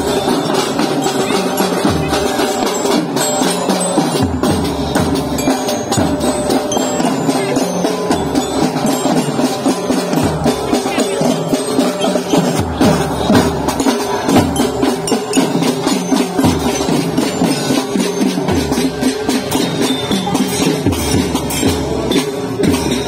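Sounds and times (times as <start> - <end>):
snare drums beating: 0.0 - 23.0.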